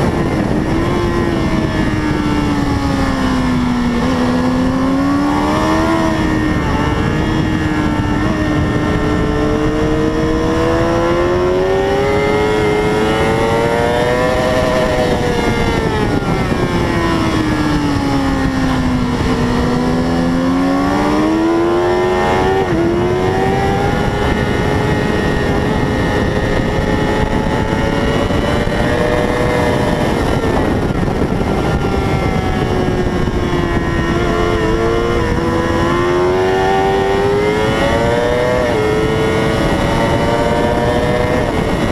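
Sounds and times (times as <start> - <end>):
noisy rush: 0.0 - 41.9
racing motorcycle engine: 0.0 - 41.9.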